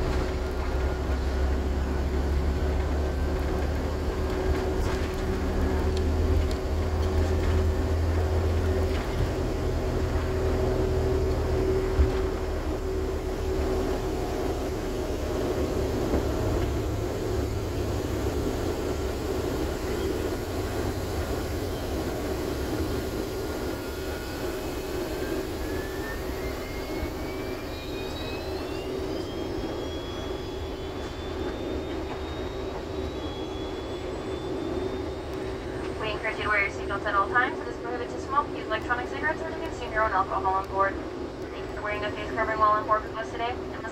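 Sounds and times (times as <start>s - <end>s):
thin whine rising in pitch: 0.0s - 41.6s
airliner engines rushing: 0.0s - 43.9s
constant low hum: 0.0s - 43.9s.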